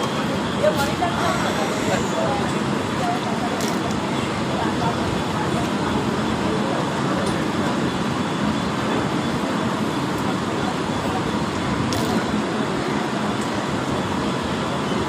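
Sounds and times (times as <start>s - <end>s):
train rumbling at speed: 0.0s - 15.0s.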